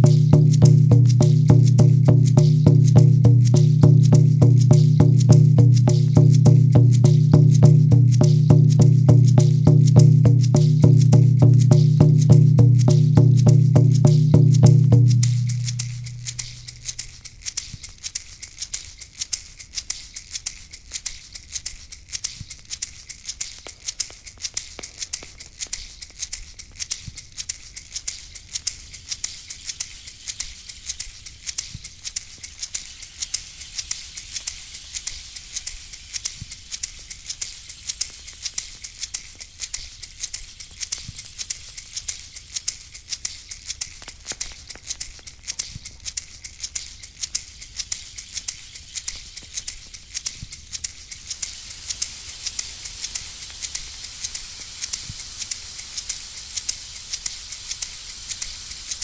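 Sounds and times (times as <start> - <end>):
rattle shaken rhythmically: 0.0 - 59.0.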